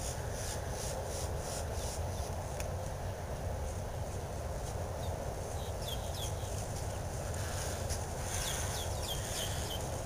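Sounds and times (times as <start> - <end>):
small birds chirping: 0.0 - 3.2, 4.6 - 10.0.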